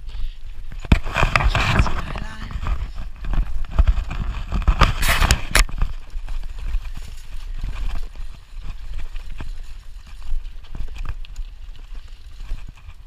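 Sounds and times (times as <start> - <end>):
mountain bike rattling on dirt trail: 0.0 - 13.0.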